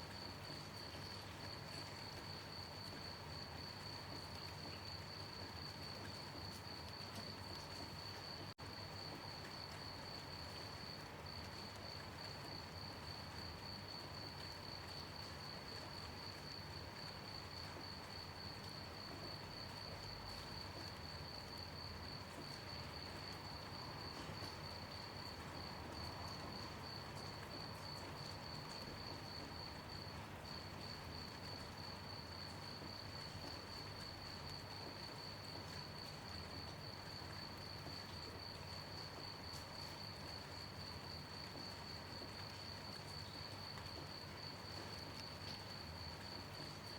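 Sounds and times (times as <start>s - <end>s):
gentle rain hiss: 0.0s - 46.9s
crickets chirping: 0.1s - 46.9s.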